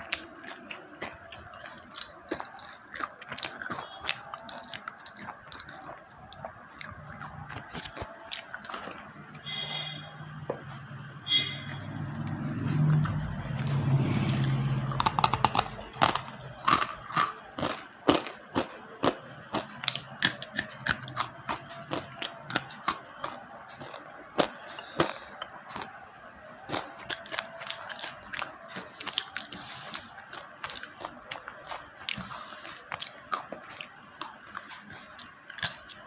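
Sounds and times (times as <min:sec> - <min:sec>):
pencils crunching when chewed: 0:00.0 - 0:09.1, 0:12.1 - 0:26.0, 0:26.6 - 0:36.0.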